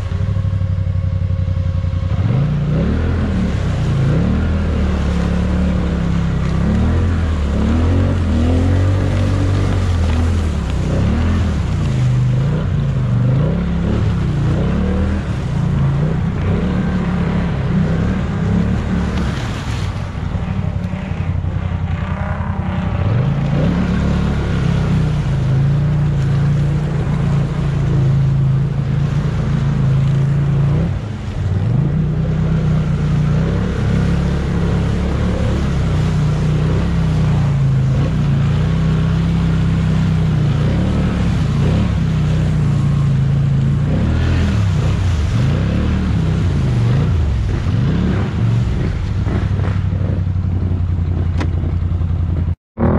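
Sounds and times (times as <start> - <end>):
engine revving: 0.0 - 52.9.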